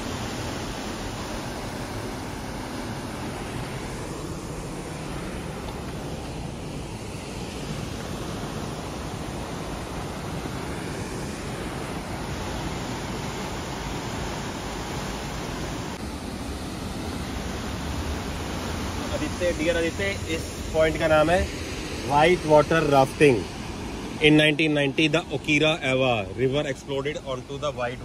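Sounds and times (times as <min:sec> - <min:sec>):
waterfall rushing: 0:00.0 - 0:24.8.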